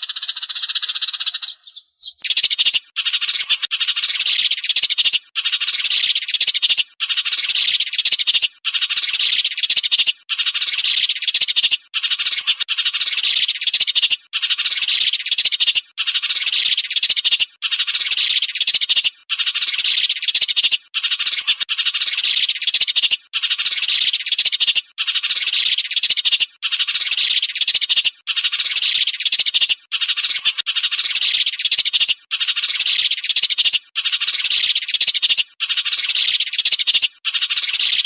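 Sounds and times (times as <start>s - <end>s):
sparrows chirping: 0.0s - 38.0s.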